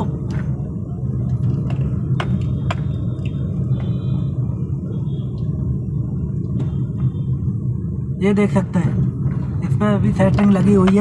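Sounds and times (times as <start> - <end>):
motorbike engine and road rumble: 0.0 - 11.0.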